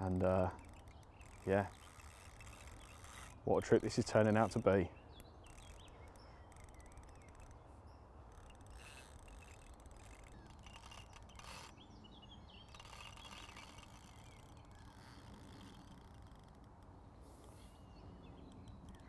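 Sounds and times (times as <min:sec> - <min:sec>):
fishing reel drag clicking: 0:00.0 - 0:07.7, 0:08.3 - 0:11.8, 0:12.6 - 0:19.0
small bird chirps: 0:00.0 - 0:16.4.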